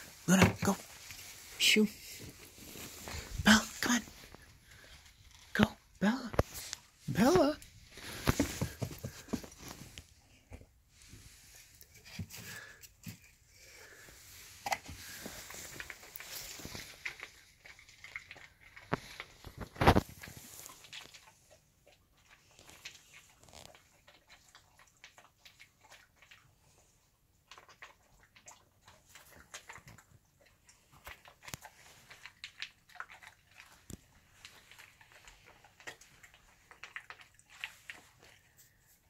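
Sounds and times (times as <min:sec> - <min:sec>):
dog eating from plastic bowl: 0:00.0 - 0:39.0.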